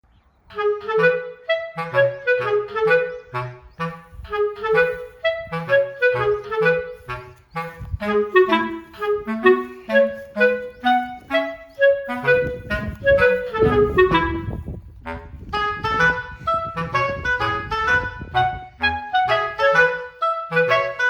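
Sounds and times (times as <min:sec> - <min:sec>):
light instrumental tune: 0:00.5 - 0:21.0.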